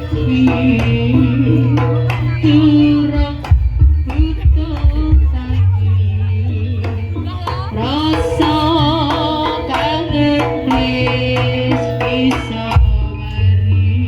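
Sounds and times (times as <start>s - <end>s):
drumming: 0.0s - 13.9s
steady low bass: 0.0s - 14.0s
wavering held melody: 0.0s - 14.0s.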